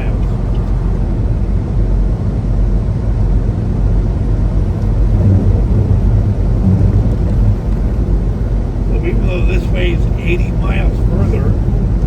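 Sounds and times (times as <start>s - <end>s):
semi truck engine and road noise: 0.0s - 12.0s.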